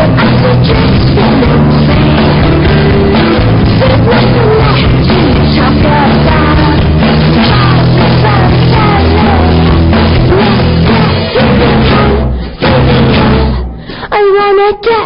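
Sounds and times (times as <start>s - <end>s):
rock music with heavy beat: 0.0s - 13.9s
person singing: 0.0s - 15.0s.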